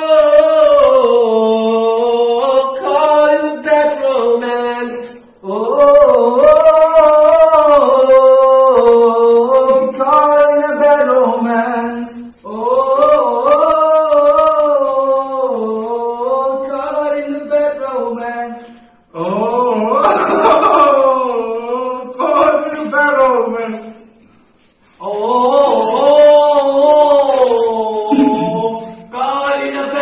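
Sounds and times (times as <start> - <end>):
man singing a cappella: 0.0 - 30.0.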